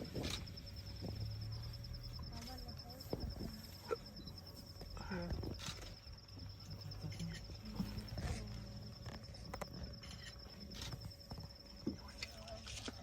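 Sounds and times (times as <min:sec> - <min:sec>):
high insect trill: 0:00.0 - 0:13.0
low hum: 0:00.0 - 0:13.0.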